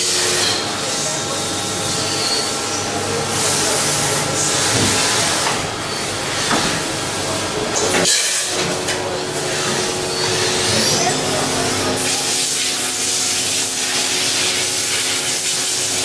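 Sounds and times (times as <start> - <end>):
machining center running: 0.0 - 16.0.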